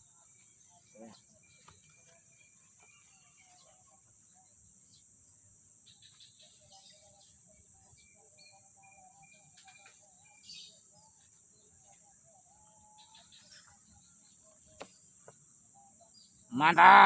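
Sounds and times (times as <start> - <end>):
faint bird chirps: 0.0 - 16.8
steady high-pitched hiss: 0.0 - 16.8.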